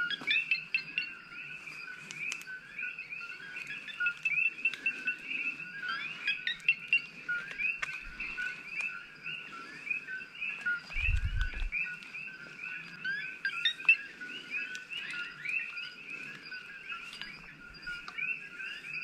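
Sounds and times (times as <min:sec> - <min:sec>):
frogs chirping: 0:00.0 - 0:19.0.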